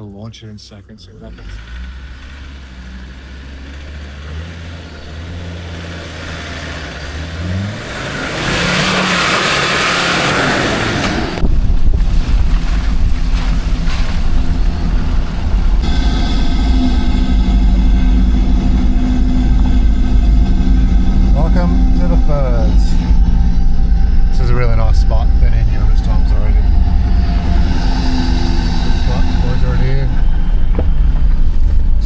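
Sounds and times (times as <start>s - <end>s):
heavy low rumble: 0.0s - 32.0s
engine revving hard: 1.2s - 11.5s, 13.4s - 32.0s.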